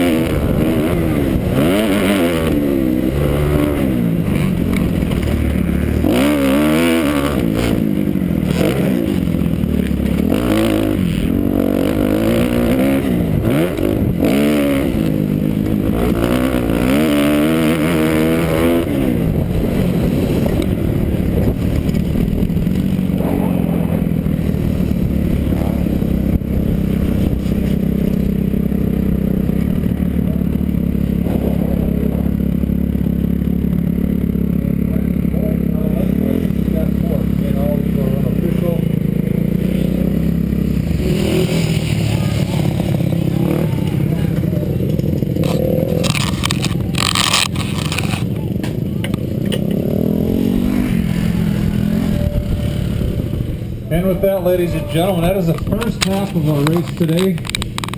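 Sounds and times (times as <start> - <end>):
motocross engine revving: 0.0 - 57.9.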